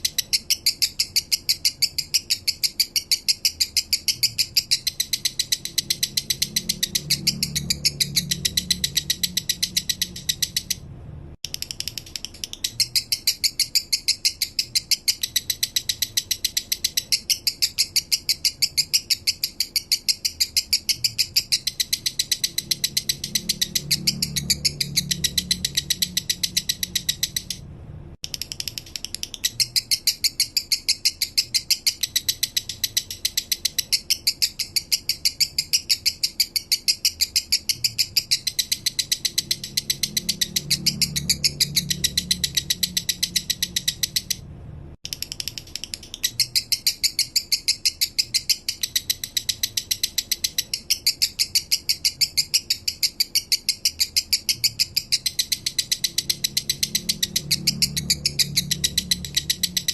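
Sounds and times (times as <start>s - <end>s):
lovebird chattering song: 0.0s - 27.6s, 28.2s - 44.4s, 45.0s - 59.9s.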